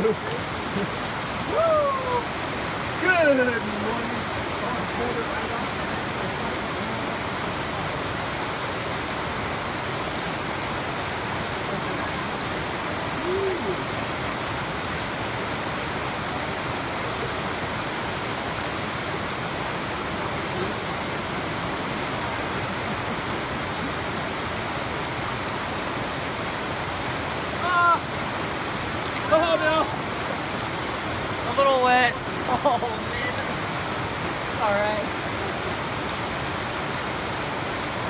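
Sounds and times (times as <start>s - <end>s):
creek water rushing over rocks: 0.0s - 38.0s.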